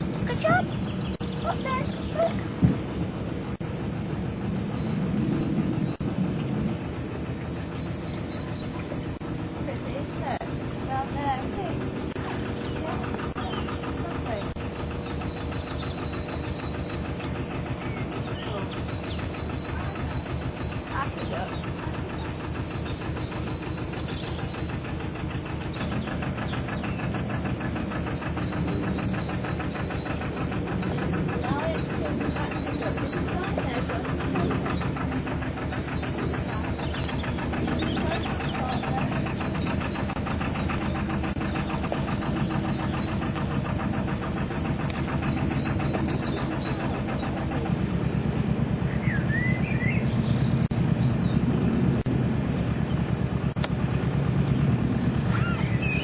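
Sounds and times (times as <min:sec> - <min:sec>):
boat diesel engine chugging: 0:00.0 - 0:56.0.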